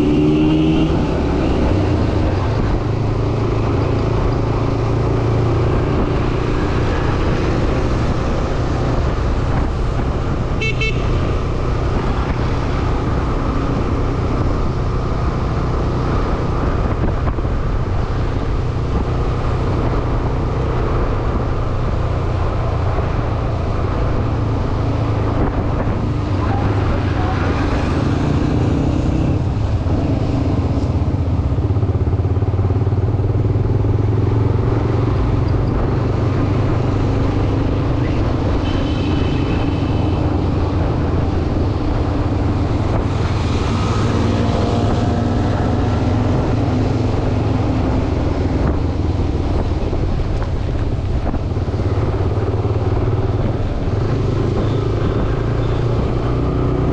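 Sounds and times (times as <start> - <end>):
motorcycle engine revving: 0.0 - 56.9
road and traffic noise: 0.0 - 56.9.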